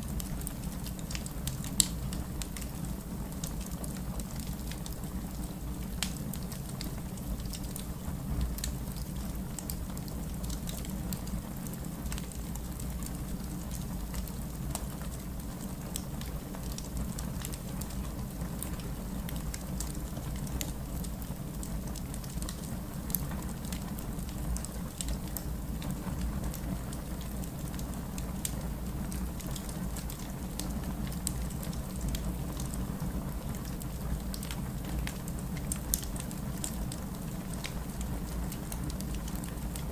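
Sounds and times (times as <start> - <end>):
fire popping and crackling: 0.0 - 39.9
fire rumbling: 0.0 - 39.9.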